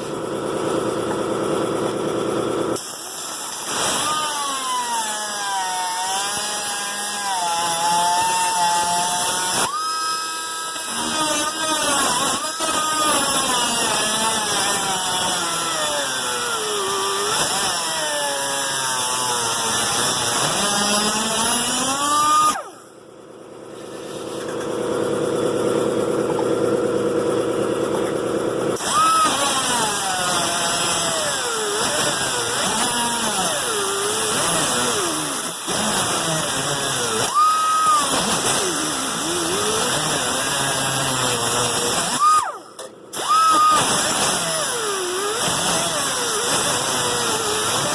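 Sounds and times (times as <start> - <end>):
angle grinder whining on metal: 2.8 - 22.9, 28.0 - 47.9.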